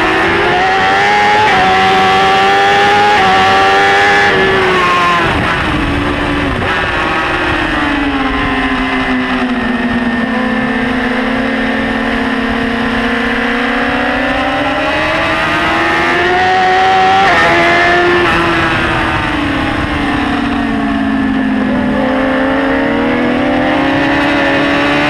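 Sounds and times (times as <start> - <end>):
motorcycle engine: 0.0 - 25.0
wind rush: 0.0 - 25.0.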